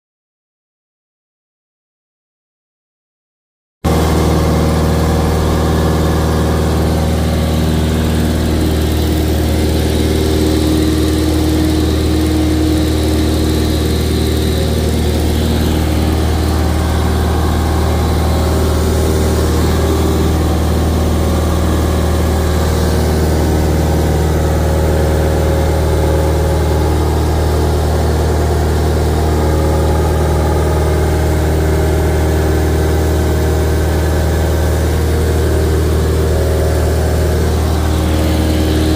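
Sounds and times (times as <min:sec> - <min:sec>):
propeller plane engine drone: 0:03.9 - 0:38.9.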